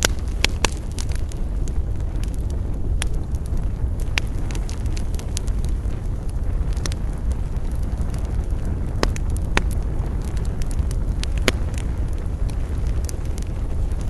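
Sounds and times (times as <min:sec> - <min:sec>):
burning wood popping: 0:00.0 - 0:14.0
campfire crackling: 0:00.0 - 0:14.0
low rumble: 0:00.0 - 0:14.0.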